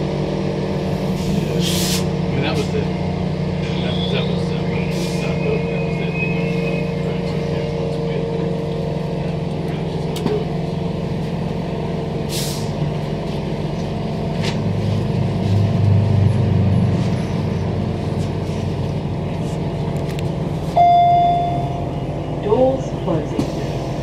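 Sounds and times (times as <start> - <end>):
electric train interior hum: 0.0 - 24.0.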